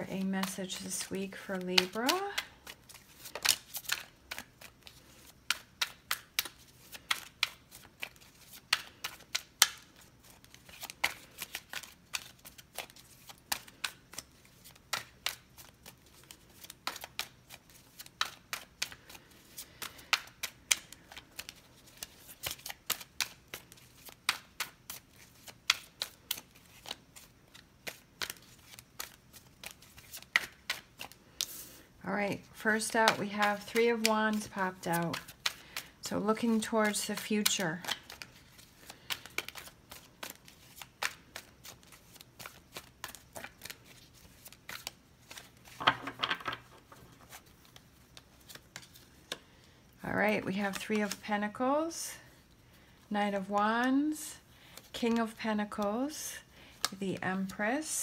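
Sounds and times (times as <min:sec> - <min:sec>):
cards being shuffled: 0:00.0 - 0:58.0.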